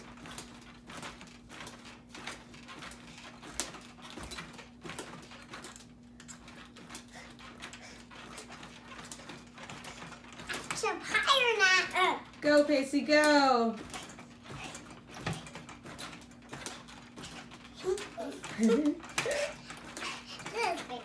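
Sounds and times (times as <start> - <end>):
steady low hum: 0.0 - 21.0
trampoline bouncing thumps: 0.0 - 21.0.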